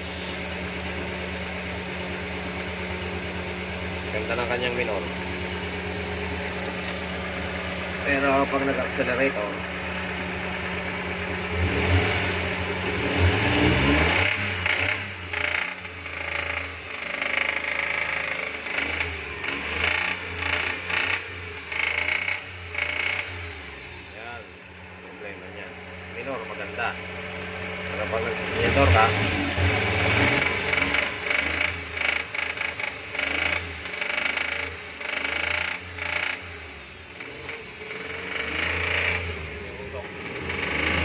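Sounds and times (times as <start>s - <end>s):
engine revving and knocking: 0.0s - 24.2s, 26.0s - 41.0s.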